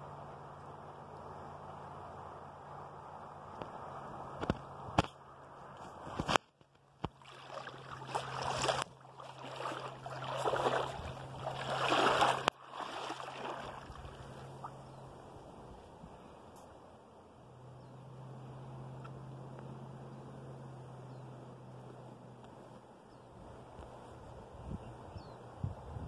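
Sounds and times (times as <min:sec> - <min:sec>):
river water gurgling: 0:00.0 - 0:24.1.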